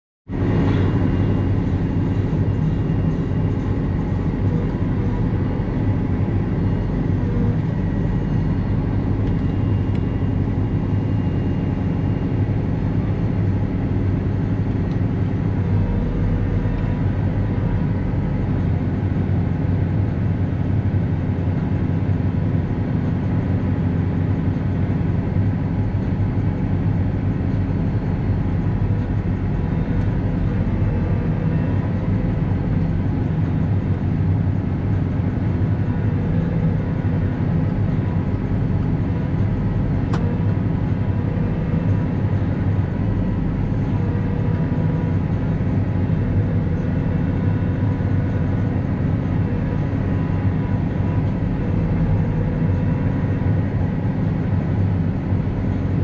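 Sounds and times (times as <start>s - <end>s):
tractor diesel engine running: 0.3s - 56.0s.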